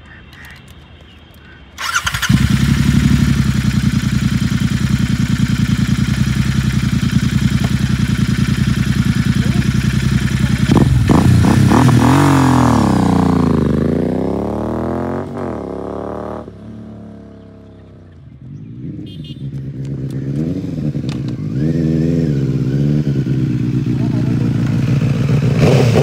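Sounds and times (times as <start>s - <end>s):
motorcycle revving and accelerating: 1.8s - 26.0s
second motorcycle approaching: 1.8s - 26.0s.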